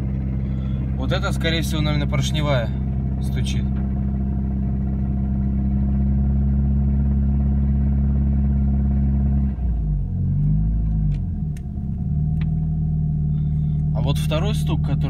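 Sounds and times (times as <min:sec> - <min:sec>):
car engine running with knock: 0:00.0 - 0:09.2, 0:10.4 - 0:15.0.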